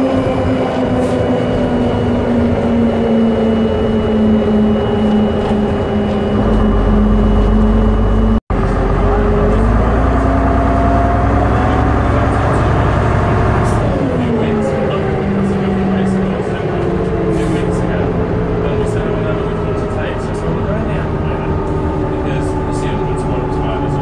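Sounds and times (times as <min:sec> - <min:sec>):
bus transmission whine: 0:00.0 - 0:24.0
deep engine rumble: 0:00.0 - 0:24.0.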